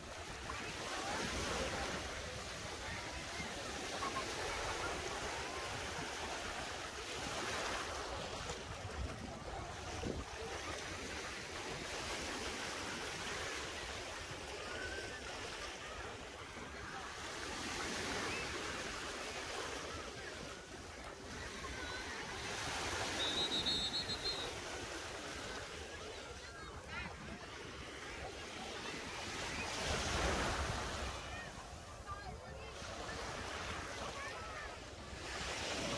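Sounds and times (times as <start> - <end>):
sea waves washing onto beach: 0.0 - 35.9.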